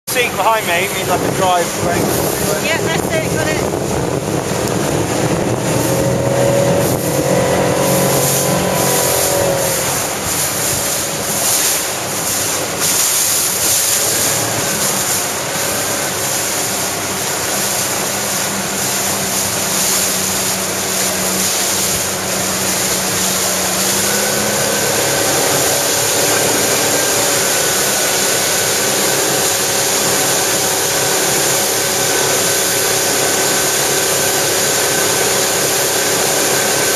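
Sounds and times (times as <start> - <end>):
motorboat engine running: 0.0 - 36.9
water rushing past hull: 0.0 - 36.9
wind buffeting microphone: 0.2 - 36.9.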